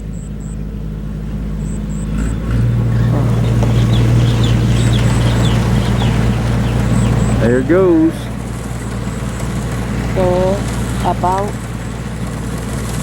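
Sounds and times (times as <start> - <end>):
birds chirping: 0.0 - 13.0
combine harvester engine humming: 0.0 - 13.0.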